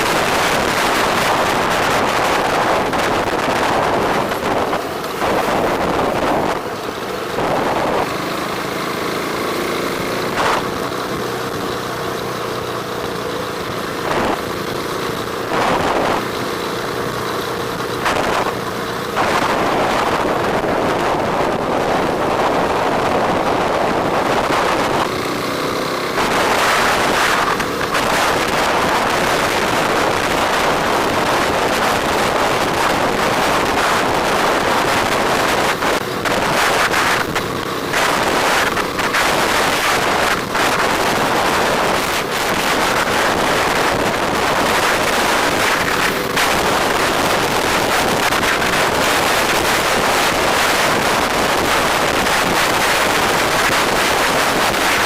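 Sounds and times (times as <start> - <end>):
wind buffeting microphone: 0.0 - 8.4, 17.8 - 55.0
motorcycle engine running: 0.0 - 55.0.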